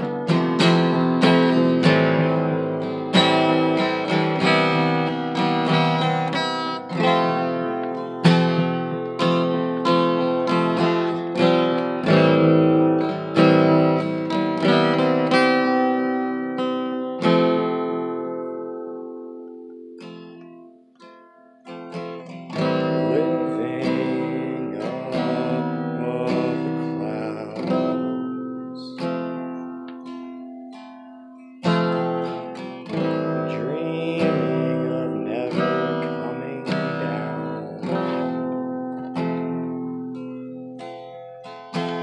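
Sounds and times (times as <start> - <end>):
acoustic guitar chords: 0.0 - 42.0.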